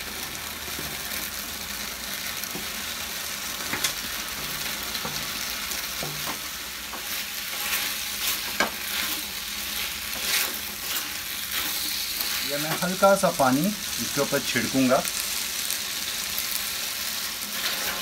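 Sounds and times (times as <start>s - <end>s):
sauce sizzling in a frying pan: 0.0s - 18.0s.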